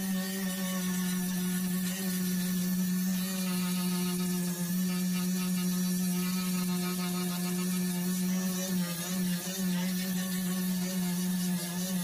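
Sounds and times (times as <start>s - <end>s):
angle grinder sanding: 0.0s - 12.0s.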